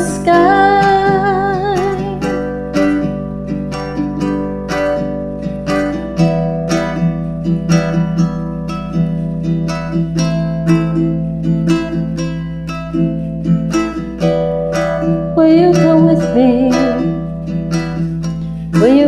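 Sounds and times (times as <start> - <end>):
picked guitar-like notes: 0.0 - 19.0.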